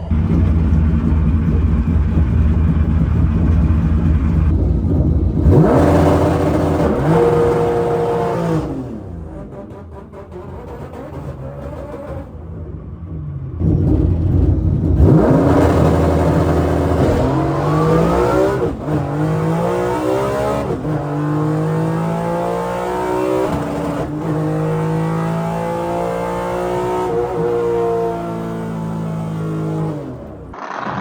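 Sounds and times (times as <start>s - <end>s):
car engine revving through gears: 0.0s - 12.7s, 13.4s - 31.0s.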